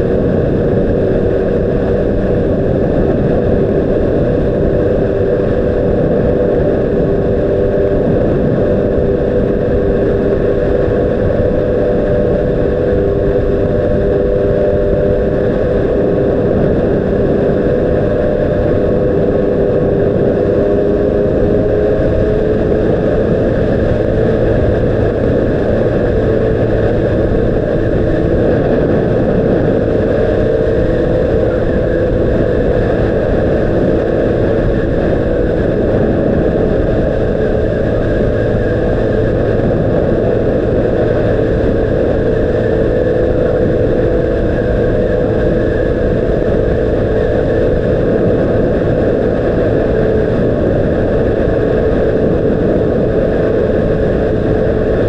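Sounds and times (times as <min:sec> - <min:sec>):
dense low rumble: 0:00.0 - 0:55.0
motorcycle engine cruising: 0:00.0 - 0:55.0.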